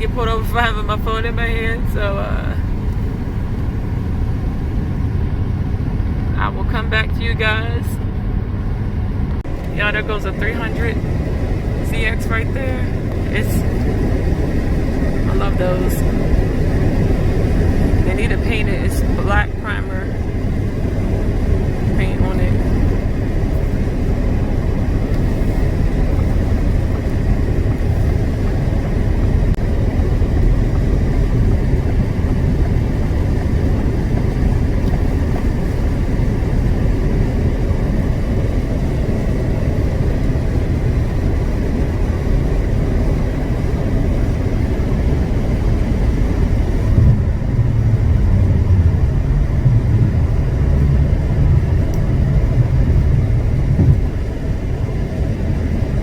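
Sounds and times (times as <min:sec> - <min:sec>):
road and engine noise inside car: 0:00.0 - 0:56.0.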